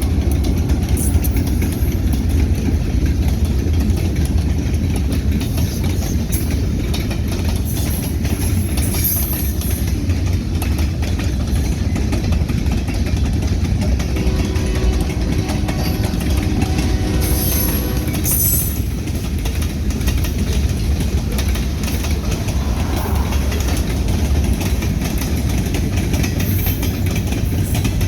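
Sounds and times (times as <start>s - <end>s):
freight train rumbling by: 0.0s - 28.0s.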